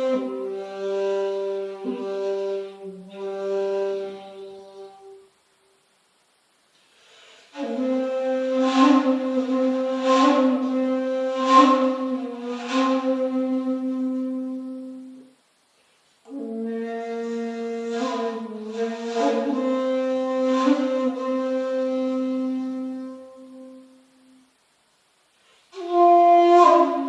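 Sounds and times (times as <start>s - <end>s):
breathy bamboo flute notes: 0.0s - 5.3s, 6.9s - 15.4s, 16.3s - 24.6s, 25.4s - 27.0s.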